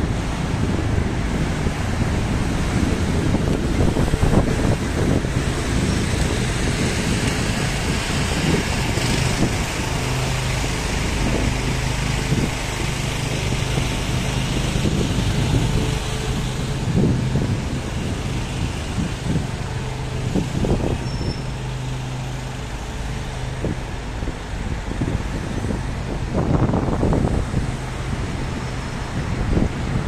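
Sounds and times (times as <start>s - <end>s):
low engine hum: 0.0s - 30.0s
road traffic rumble: 0.0s - 30.0s.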